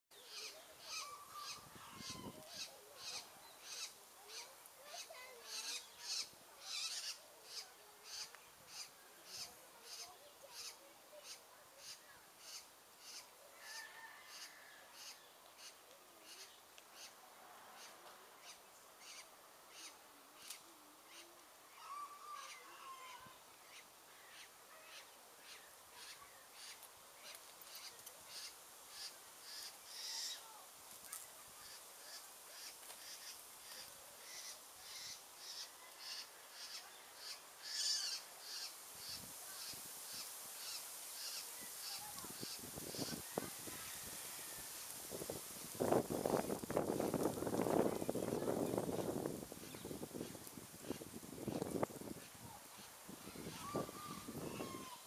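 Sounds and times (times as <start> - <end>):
faint bird calls: 0.1 - 55.0.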